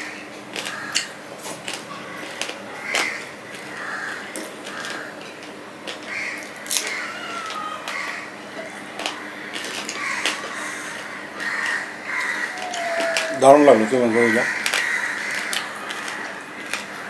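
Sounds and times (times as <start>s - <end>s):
man chewing food: 0.0s - 17.0s
background calls: 1.7s - 17.0s.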